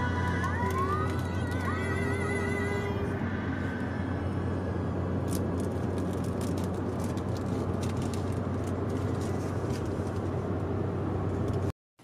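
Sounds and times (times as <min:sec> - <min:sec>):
car cabin road and engine hum: 0:00.0 - 0:11.8.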